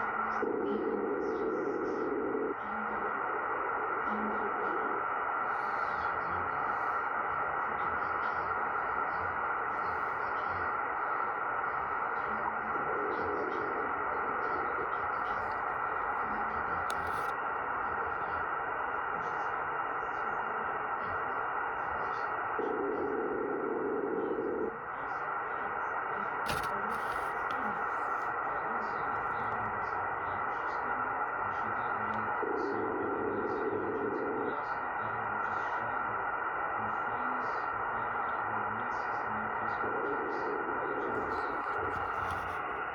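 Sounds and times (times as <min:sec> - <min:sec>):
shortwave radio rushing noise: 0:00.0 - 0:42.9.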